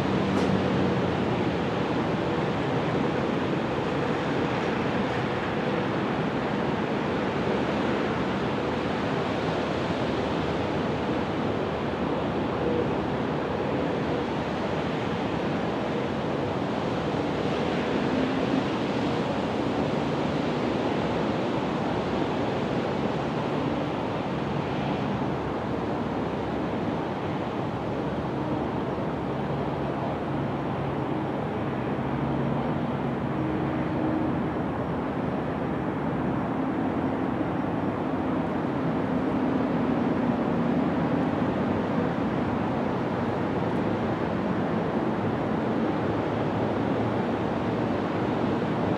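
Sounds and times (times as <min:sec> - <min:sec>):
wind: 0:00.0 - 0:48.9.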